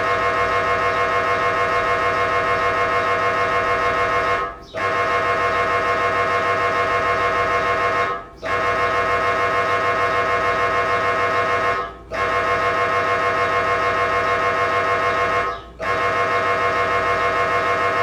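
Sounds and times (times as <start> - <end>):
mri scanner buzzing: 0.0 - 18.0.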